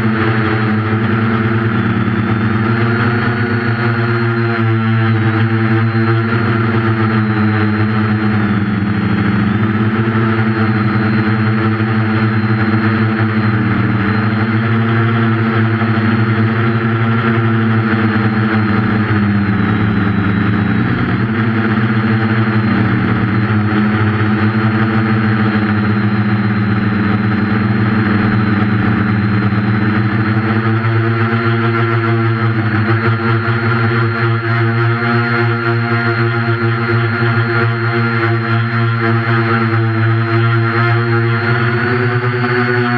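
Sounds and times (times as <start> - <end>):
drone propellers buzzing: 0.0 - 42.9
faint high whine: 0.0 - 42.9.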